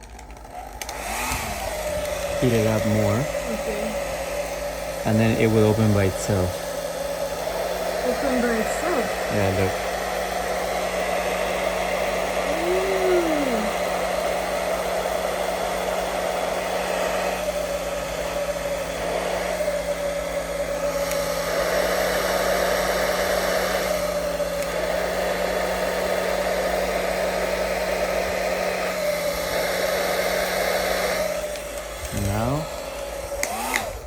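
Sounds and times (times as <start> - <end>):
hot-air blower running: 0.0 - 34.0.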